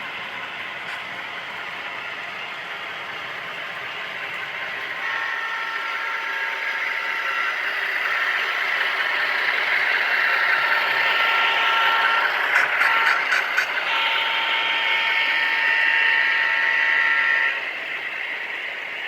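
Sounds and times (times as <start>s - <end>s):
model train running: 0.0s - 19.0s.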